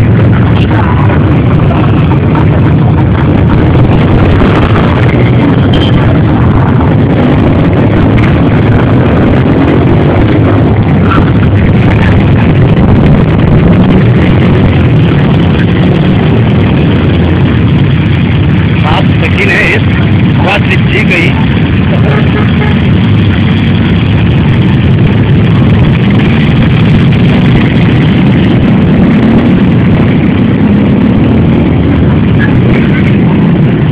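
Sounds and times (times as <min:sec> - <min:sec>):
off-road motorcycle engines: 0:00.0 - 0:33.9.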